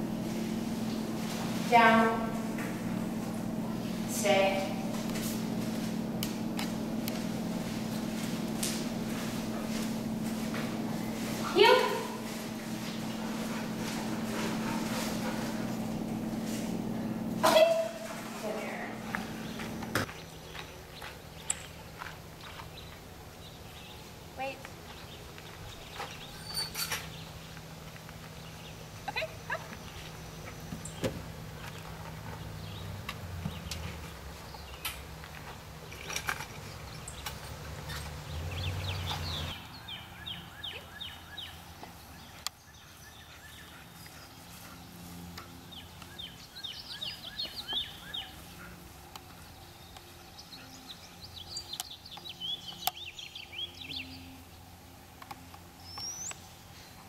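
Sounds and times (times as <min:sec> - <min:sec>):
songbirds chirping: 0:00.0 - 0:57.0
steady low hum: 0:00.0 - 0:57.0.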